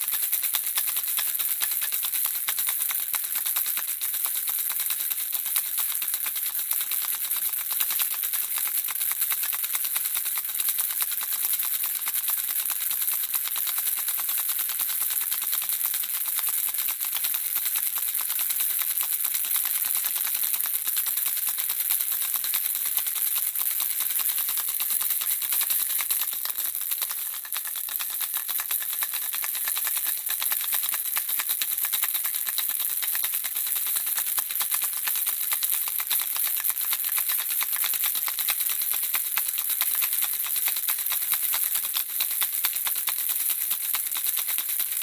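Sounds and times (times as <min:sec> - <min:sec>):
baby rattle shaking: 0:00.0 - 0:45.0.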